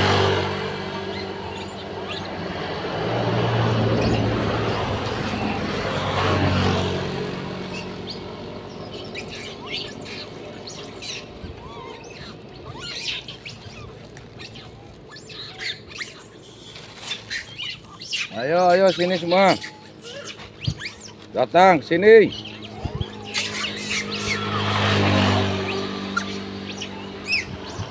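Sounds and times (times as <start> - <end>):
monkeys chirping and squeaking: 0.0 - 27.9
vehicle passing: 0.0 - 27.9.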